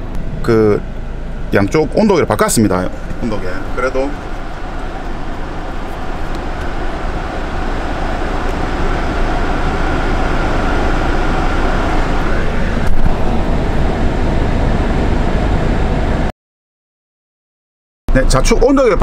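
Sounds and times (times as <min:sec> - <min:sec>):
air rushing from a vent: 0:00.0 - 0:16.3.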